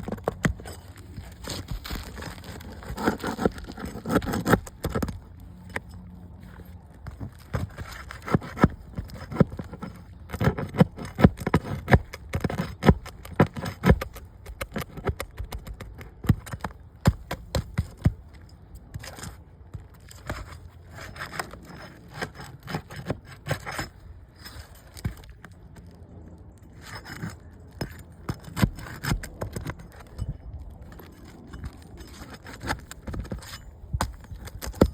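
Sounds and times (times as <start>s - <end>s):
tool scraping roof shingles: 0.0s - 34.9s.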